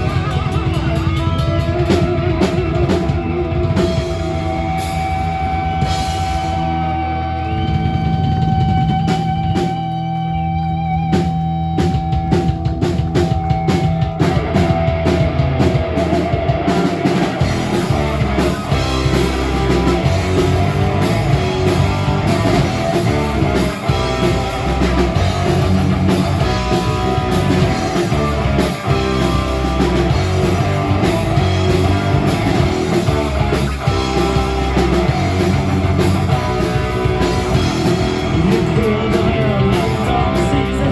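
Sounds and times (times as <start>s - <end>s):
bass guitar: 0.0s - 40.9s
drums: 0.0s - 40.9s
electric guitar: 0.0s - 40.9s.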